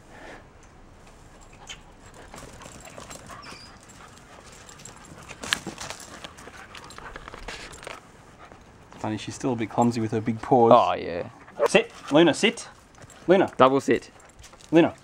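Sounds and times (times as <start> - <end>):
dog paws scuffing on paving: 1.1 - 15.0.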